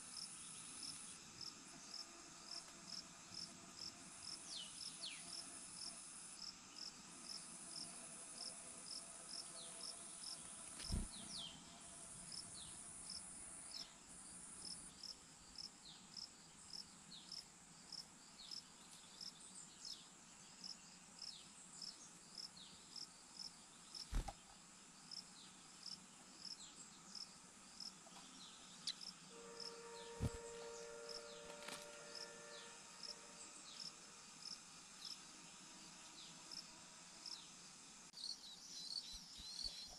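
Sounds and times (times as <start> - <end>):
high insect buzz: 0.0 - 39.9
insect chirping: 0.0 - 39.9.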